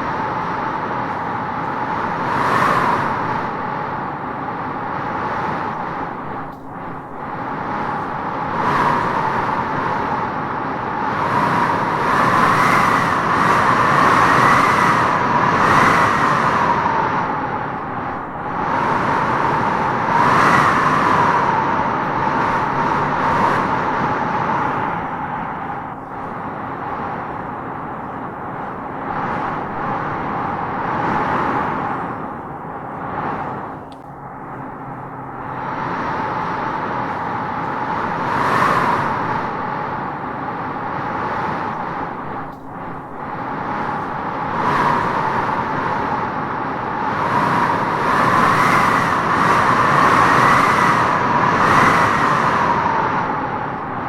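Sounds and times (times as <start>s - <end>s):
strong wind howling through trees: 0.0s - 54.0s.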